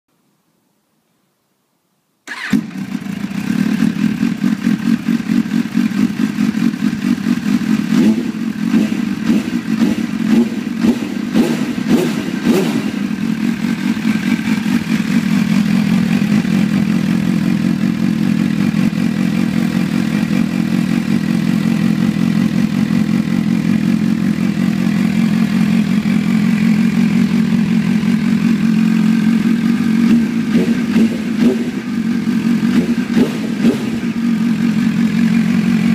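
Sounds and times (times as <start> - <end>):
motorcycle engine idling and blipping: 2.3 - 35.9.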